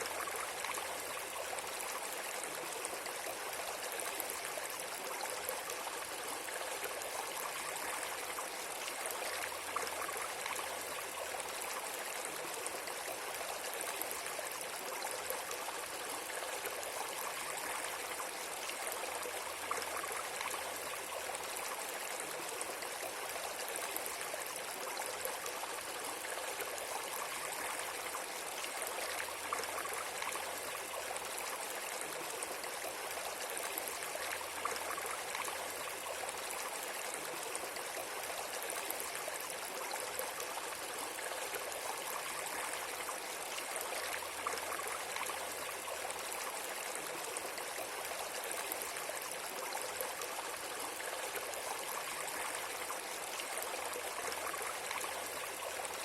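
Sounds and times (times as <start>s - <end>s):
water flowing: 0.0s - 56.0s.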